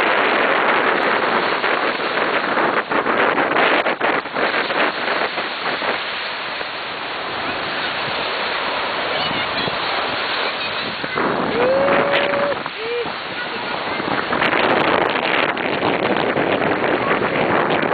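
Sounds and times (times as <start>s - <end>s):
surf washing on beach: 0.0s - 17.9s
wind on microphone: 0.0s - 17.9s.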